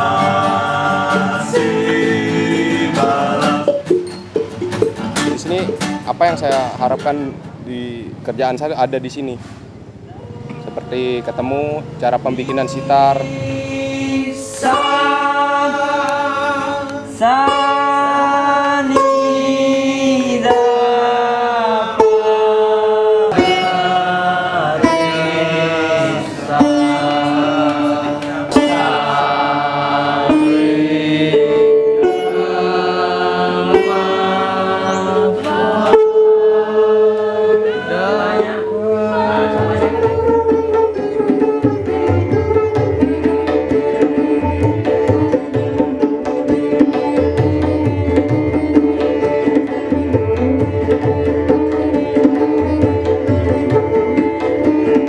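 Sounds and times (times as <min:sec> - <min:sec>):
sitar melody with pitch bends: 0:10.6 - 0:55.0.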